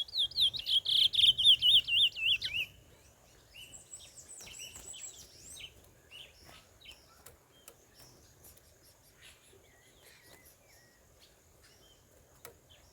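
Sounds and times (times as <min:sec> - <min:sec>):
bird chirps: 0:00.0 - 0:12.9
low outdoor hiss: 0:00.0 - 0:12.9.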